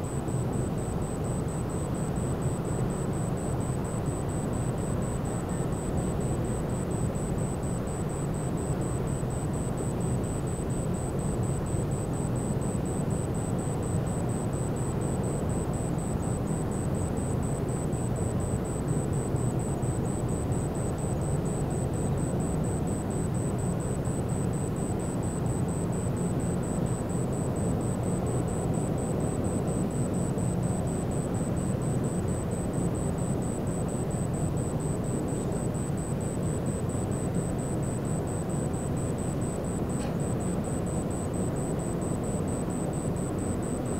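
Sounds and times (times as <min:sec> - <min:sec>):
faint high pulsing tone: 0:00.0 - 0:43.9.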